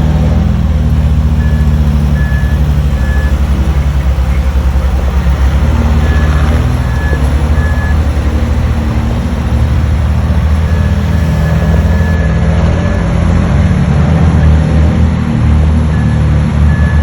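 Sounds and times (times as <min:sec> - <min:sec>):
heavy diesel engine pulsing: 0:00.0 - 0:17.0.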